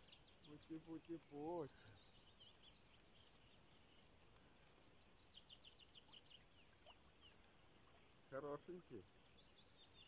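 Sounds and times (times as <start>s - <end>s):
songbird chirping: 0.0s - 10.0s.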